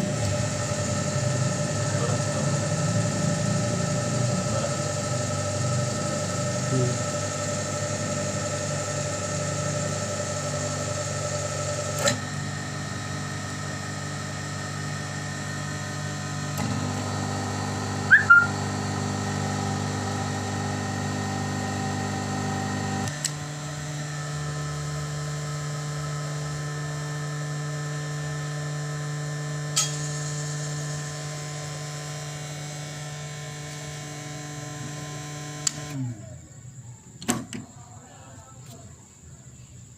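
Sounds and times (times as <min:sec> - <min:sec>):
electric motor humming: 0:00.0 - 0:36.5.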